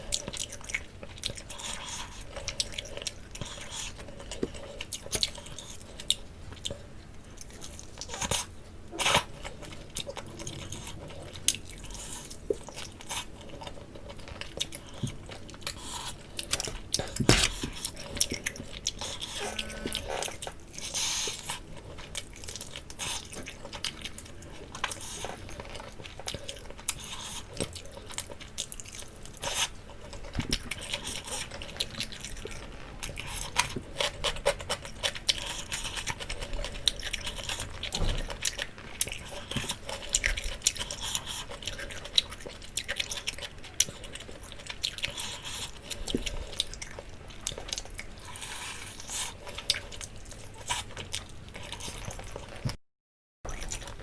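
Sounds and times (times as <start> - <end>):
person chewing chicken: 0.0 - 52.8, 53.5 - 54.0.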